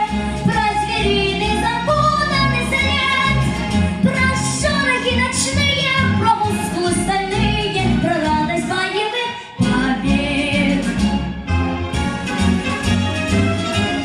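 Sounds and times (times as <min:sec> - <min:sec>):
instrumental backing track: 0:00.0 - 0:14.0.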